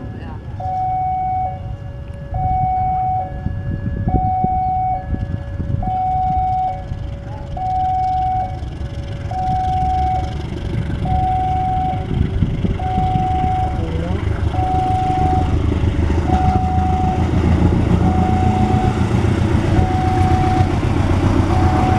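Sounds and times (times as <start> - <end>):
level crossing alarm: 0.0 - 12.2, 12.8 - 21.9
diesel locomotive rumbling: 0.0 - 21.9.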